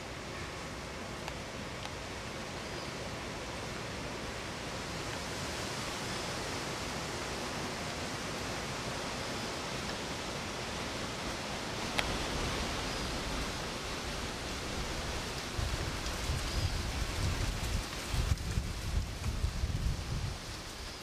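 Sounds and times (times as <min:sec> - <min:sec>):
steady outdoor rushing noise: 0:00.0 - 0:21.0.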